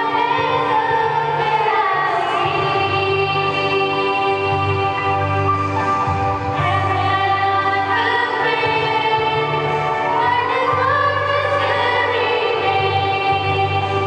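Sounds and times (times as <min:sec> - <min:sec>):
choir singing: 0:00.0 - 0:14.0
sustained instrumental accompaniment: 0:00.0 - 0:14.0
steady bass: 0:02.4 - 0:14.0.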